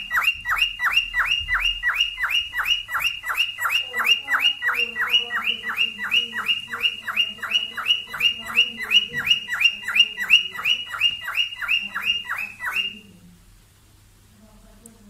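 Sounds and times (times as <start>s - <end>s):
cockatiel chirping: 0.0s - 13.2s.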